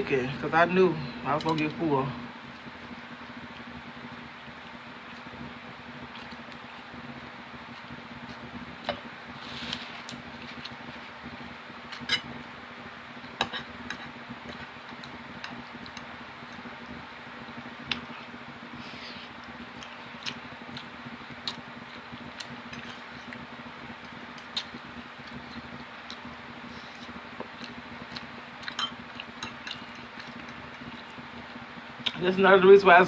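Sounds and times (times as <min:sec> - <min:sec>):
steady low hum: 0:00.0 - 0:33.0
soft eating sounds: 0:04.4 - 0:32.8.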